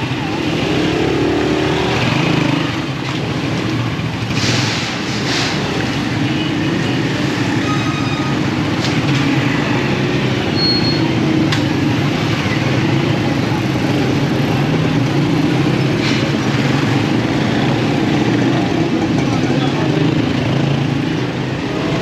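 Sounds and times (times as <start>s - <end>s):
motorcycle running: 0.0s - 7.6s, 8.3s - 22.0s
road traffic hum: 0.0s - 22.0s.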